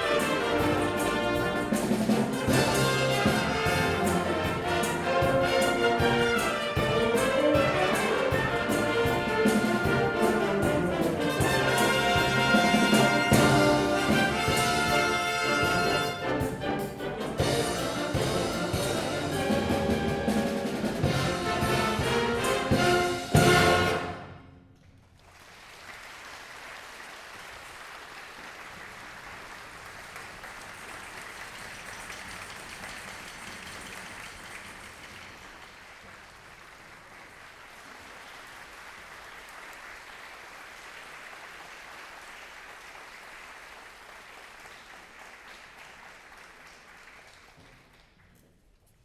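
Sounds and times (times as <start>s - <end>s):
audience applauding: 0.0s - 24.1s, 25.0s - 48.5s.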